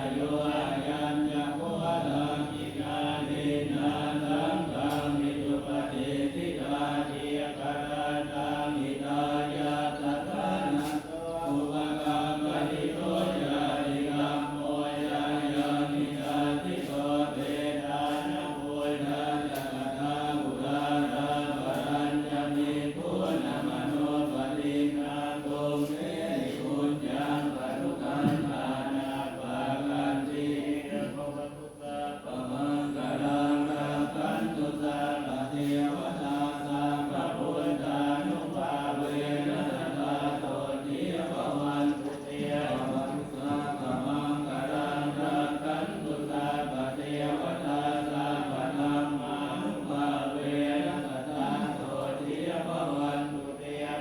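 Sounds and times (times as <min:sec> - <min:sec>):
monks chanting in unison: 0:00.0 - 0:54.0.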